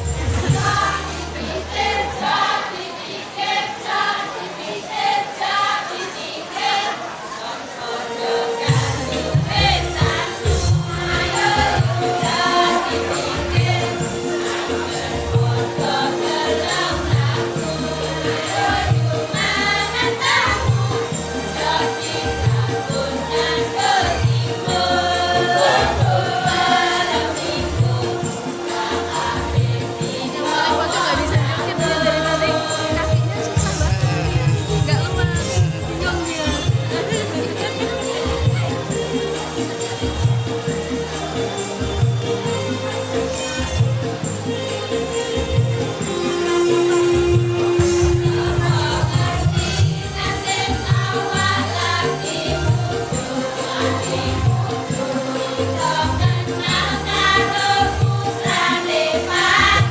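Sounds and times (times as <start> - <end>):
choir singing held notes: 0.0 - 59.9
instrumental accompaniment: 8.2 - 59.9.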